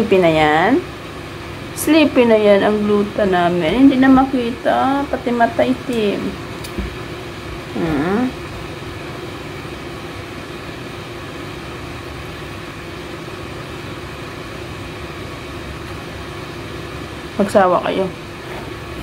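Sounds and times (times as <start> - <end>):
ventilation fan humming: 0.0 - 19.0.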